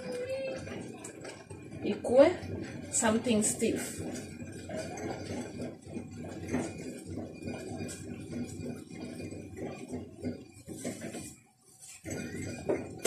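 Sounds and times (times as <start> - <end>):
spoon scraping and knocking pot: 0.0 - 13.0.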